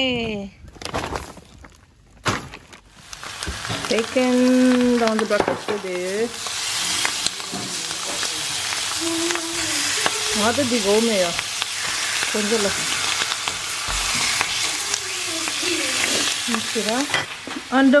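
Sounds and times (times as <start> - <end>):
bacon sizzling in a pan: 2.9 - 18.0.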